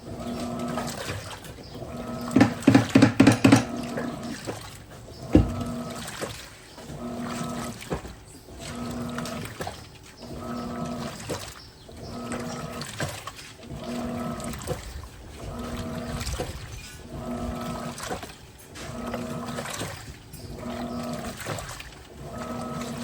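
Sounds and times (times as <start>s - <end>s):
washing machine motor humming: 0.0s - 23.0s
water and clothes sloshing: 0.0s - 23.0s.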